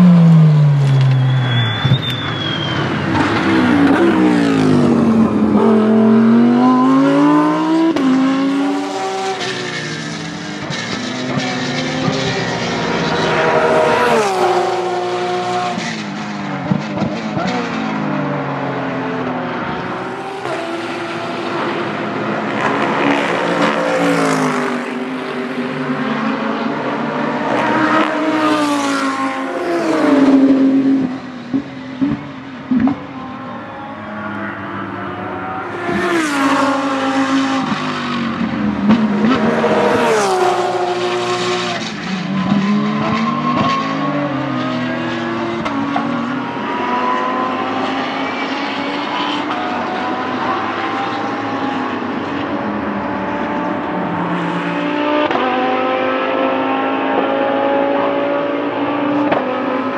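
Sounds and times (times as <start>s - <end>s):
race car engines accelerating: 0.0s - 59.9s.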